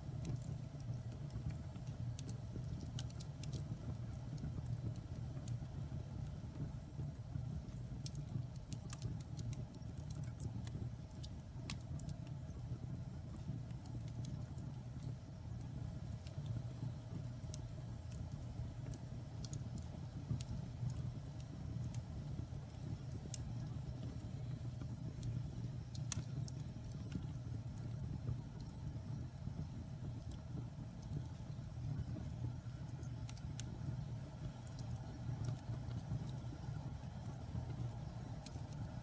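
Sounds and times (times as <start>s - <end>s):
fire rumbling in a fireplace: 0.0s - 39.0s
logs crackling and popping: 0.0s - 39.0s.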